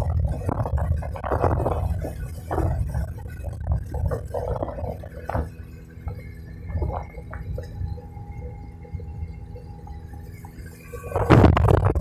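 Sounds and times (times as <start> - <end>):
water splashing against hull: 0.0 - 9.4, 10.1 - 12.0
motorboat engine drone: 0.0 - 12.0.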